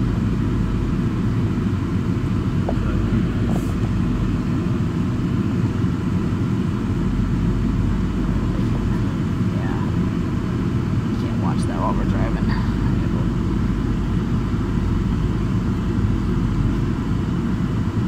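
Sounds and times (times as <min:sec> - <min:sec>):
car cabin road rumble: 0:00.0 - 0:18.0.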